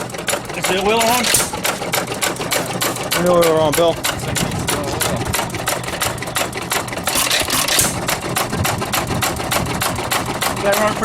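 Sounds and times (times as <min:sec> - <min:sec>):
hit-and-miss engine running: 0:00.0 - 0:11.0.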